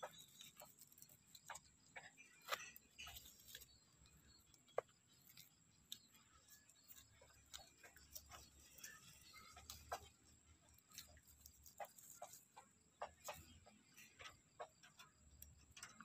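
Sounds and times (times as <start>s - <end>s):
faint irregular clicks and ticks: 0.0s - 16.0s.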